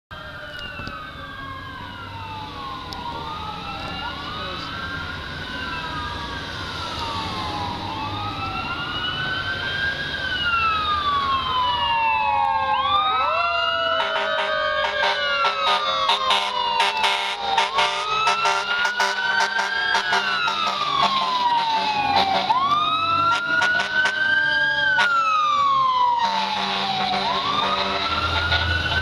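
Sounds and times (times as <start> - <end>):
fire truck sirens wailing: 0.1 - 29.0.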